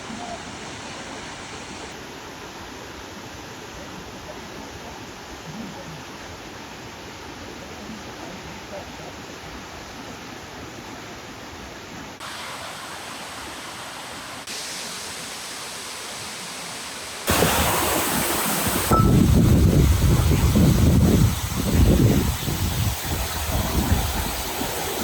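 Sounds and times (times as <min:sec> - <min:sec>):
water rushing in stream and waterfall: 0:00.0 - 0:25.0.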